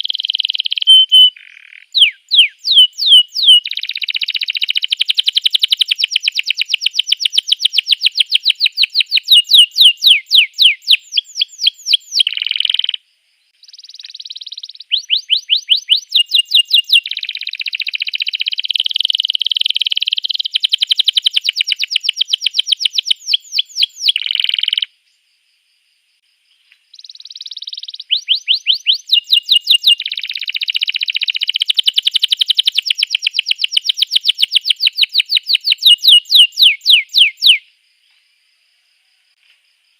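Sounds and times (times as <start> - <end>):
canary singing trills: 0.0 - 24.9, 26.9 - 37.7.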